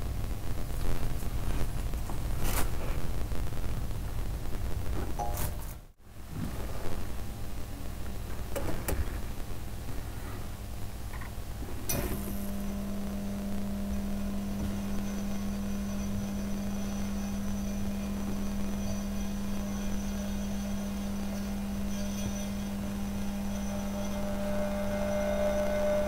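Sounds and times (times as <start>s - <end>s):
lamp electrical hum with high whine: 0.0s - 26.0s.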